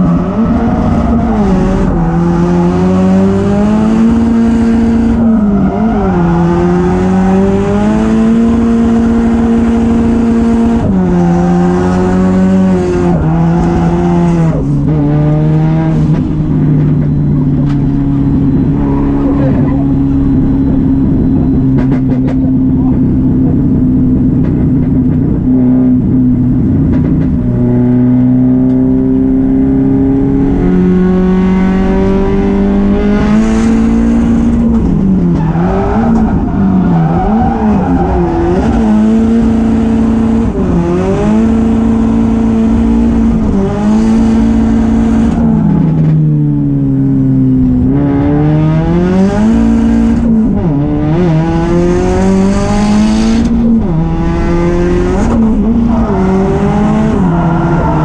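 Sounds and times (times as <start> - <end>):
car engine revving hard: 0.0 - 16.8, 27.4 - 58.0.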